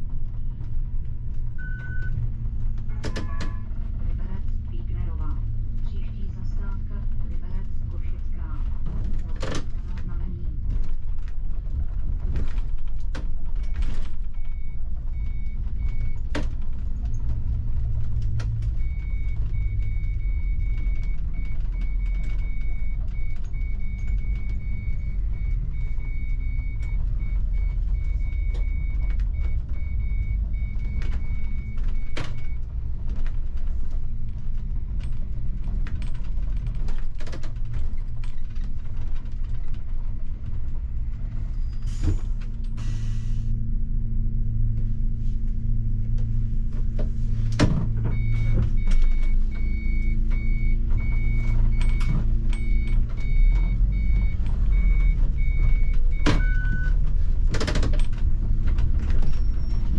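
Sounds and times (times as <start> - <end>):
bus engine and road rumble: 0.0 - 59.9
knocks and rattles: 7.1 - 42.8, 46.1 - 59.9.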